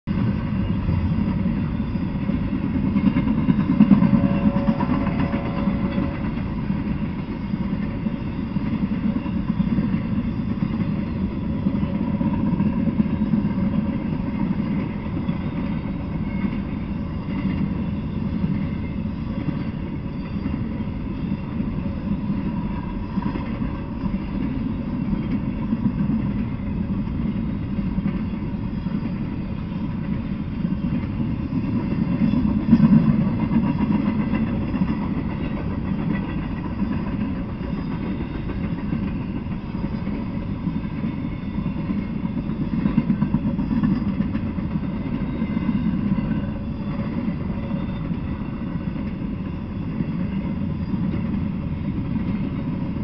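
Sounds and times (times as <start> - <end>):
freight train rolling past: 0.0 - 53.0.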